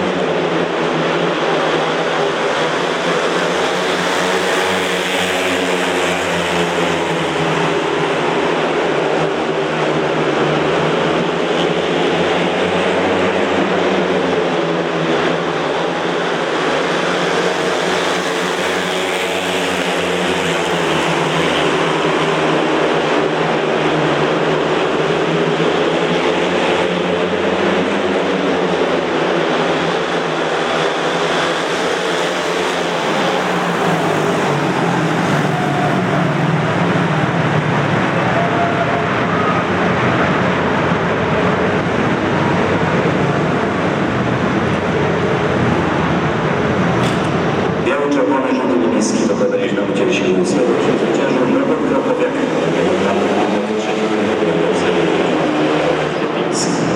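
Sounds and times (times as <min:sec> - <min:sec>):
motorcycles racing: 0:00.0 - 0:56.9.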